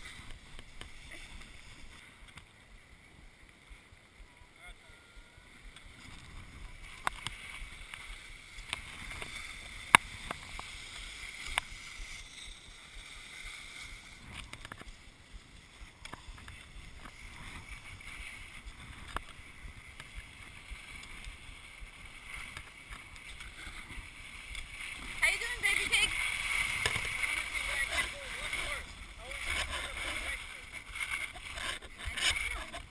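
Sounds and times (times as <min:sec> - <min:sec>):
scraping hiss over snow: 0:00.0 - 0:02.2, 0:05.5 - 0:32.9.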